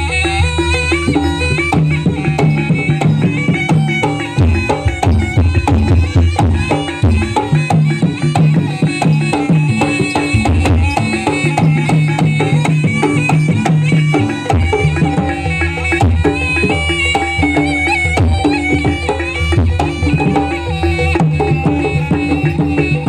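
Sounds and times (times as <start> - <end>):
hand drum patterns: 0.0 - 23.0
high wavering melody line: 0.0 - 23.0.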